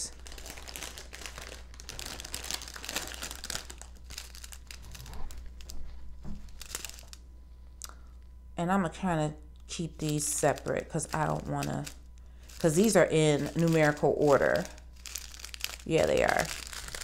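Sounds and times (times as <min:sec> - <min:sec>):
plastic bags crinkling: 0:00.0 - 0:07.2, 0:09.9 - 0:17.0.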